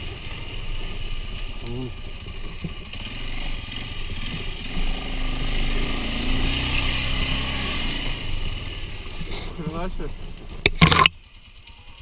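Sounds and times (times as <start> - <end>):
quad bike engine revving: 0.0 - 9.9.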